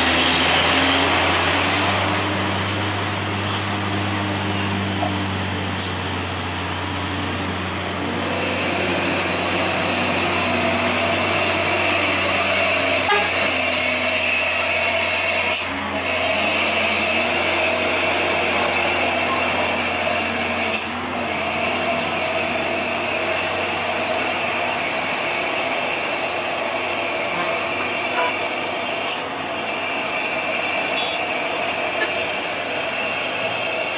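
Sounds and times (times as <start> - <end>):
truck diesel engine labouring: 0.0 - 33.9.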